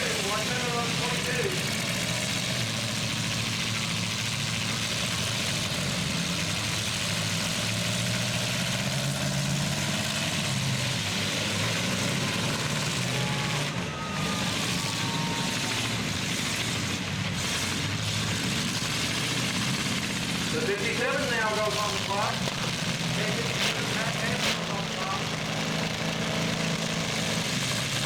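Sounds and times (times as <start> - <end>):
truck engines running: 0.0 - 28.0.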